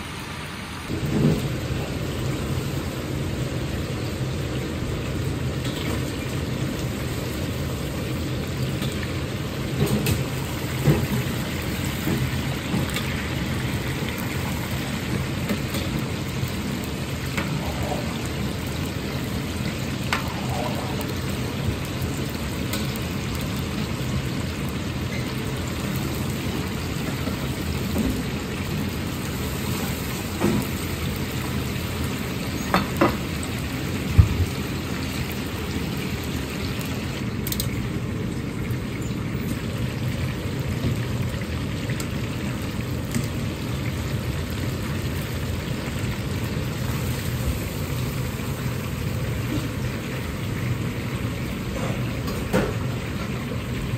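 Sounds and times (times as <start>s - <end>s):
gas burner roaring: 0.0s - 53.9s
oil bubbling and crackling: 0.1s - 53.9s.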